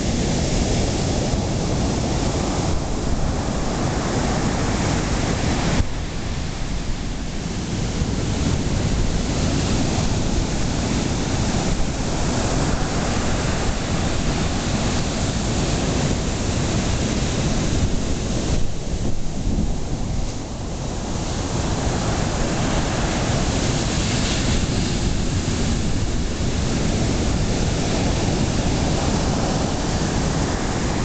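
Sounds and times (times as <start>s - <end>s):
ocean surf breaking: 0.0s - 31.0s
wind on microphone: 0.0s - 31.0s.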